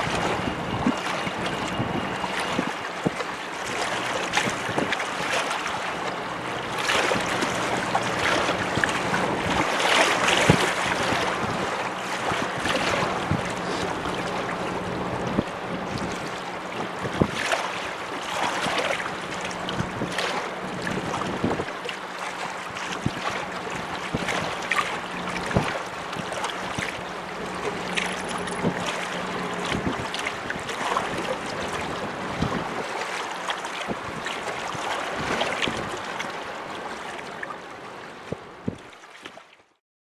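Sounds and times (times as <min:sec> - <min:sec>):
wind buffeting microphone: 0:00.0 - 0:21.8, 0:22.5 - 0:33.0, 0:33.8 - 0:36.4, 0:38.2 - 0:38.9
steady low hum: 0:00.0 - 0:38.6
waves splashing against rocks: 0:00.0 - 0:39.4.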